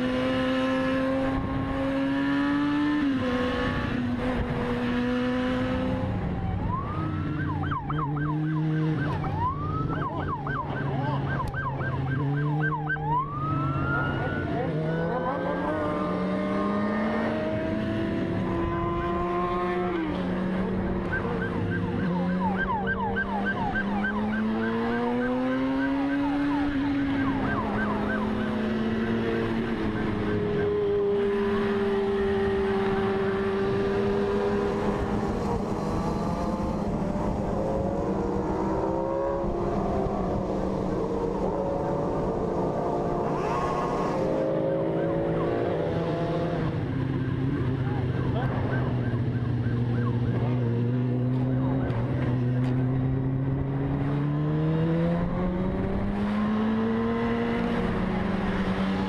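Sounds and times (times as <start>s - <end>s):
motorcycle engine revving: 0.0s - 59.0s
police siren wailing: 5.4s - 53.1s.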